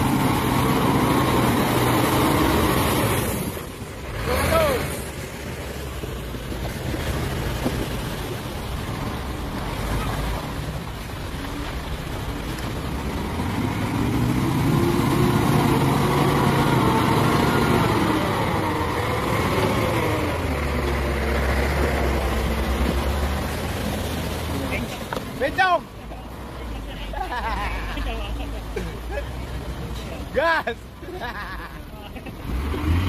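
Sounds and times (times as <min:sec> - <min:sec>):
diesel truck engines labouring: 0:00.0 - 0:33.0.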